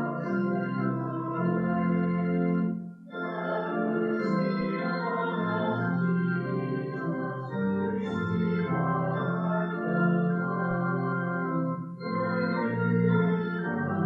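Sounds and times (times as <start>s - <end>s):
church organ held chords: 0.0s - 14.0s.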